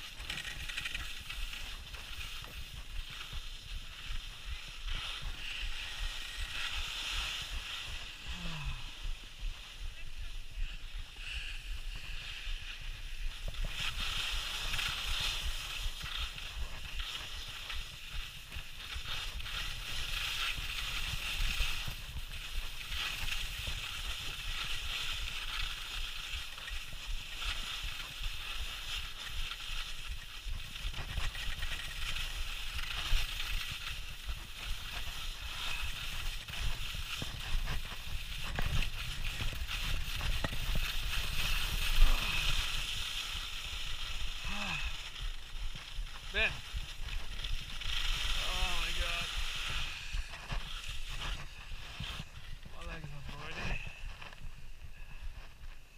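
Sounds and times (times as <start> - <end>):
skis scraping over snow: 0.0 - 55.9.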